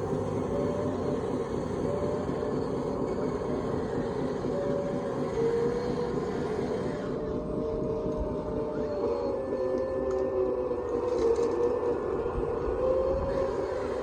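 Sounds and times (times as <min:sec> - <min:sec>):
continuous noisy rumble: 0:00.0 - 0:14.0
radio-controlled model mechanical whine: 0:00.0 - 0:14.0.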